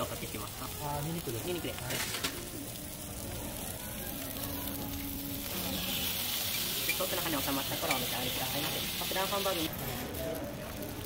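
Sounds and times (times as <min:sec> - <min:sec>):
meat sizzling on iron plate: 0:00.0 - 0:11.0.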